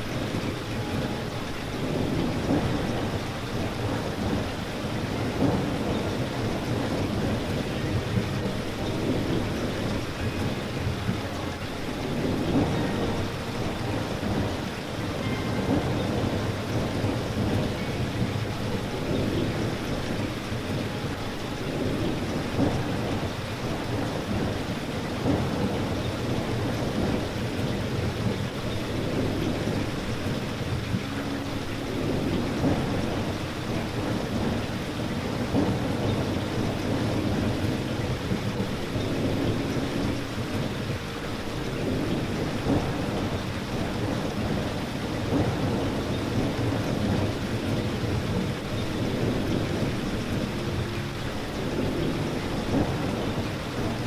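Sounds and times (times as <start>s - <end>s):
raindrop impacts: 0.0s - 54.0s
steady rain falling: 0.0s - 54.0s.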